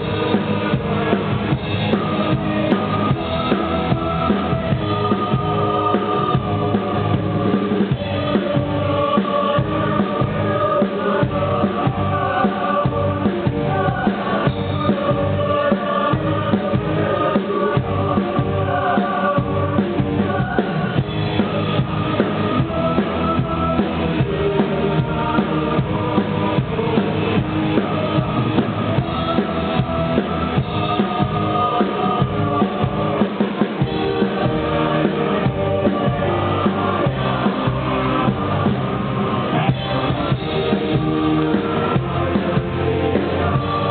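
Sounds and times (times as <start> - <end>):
choir singing: 0.0 - 43.9
drum kit beat: 0.0 - 43.9
live band playing: 0.0 - 43.9.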